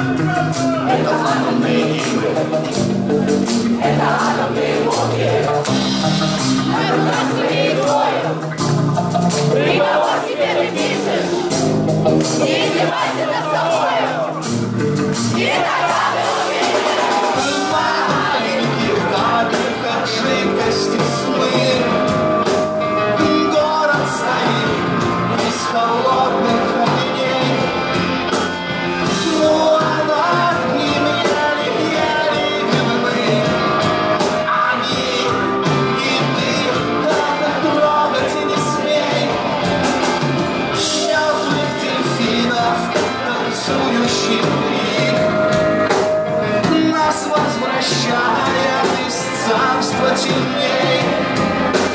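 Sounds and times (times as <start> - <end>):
person singing: 0.0 - 8.6, 15.4 - 28.4, 29.0 - 39.9, 40.7 - 51.9
bass guitar: 0.0 - 51.9
drums: 0.0 - 51.9
electric guitar: 0.0 - 51.9.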